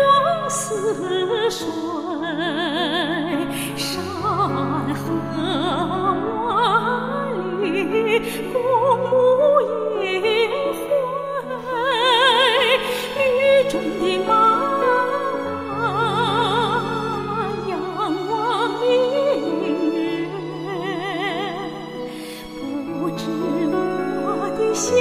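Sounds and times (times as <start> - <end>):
operatic singing: 0.0 - 25.0.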